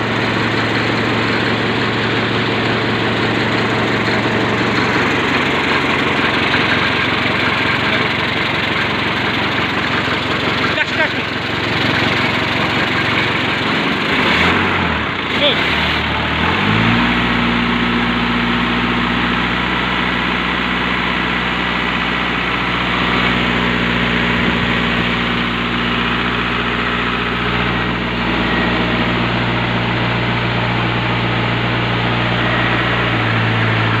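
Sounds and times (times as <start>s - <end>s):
diesel engine speeding up: 0.0s - 34.0s.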